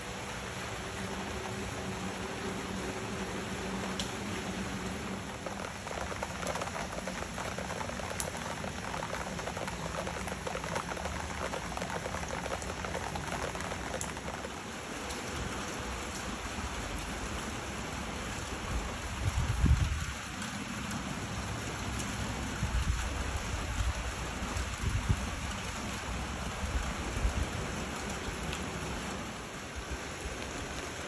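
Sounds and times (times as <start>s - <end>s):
rain on leaves and wet paving: 0.0s - 31.0s
raindrops ticking: 0.0s - 31.0s.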